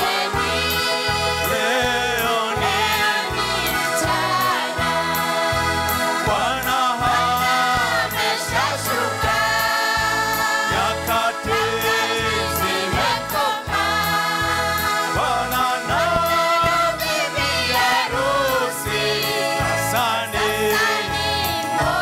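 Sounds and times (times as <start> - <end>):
amplified instrumental backing: 0.0 - 22.0
choir singing a hymn: 0.0 - 22.0.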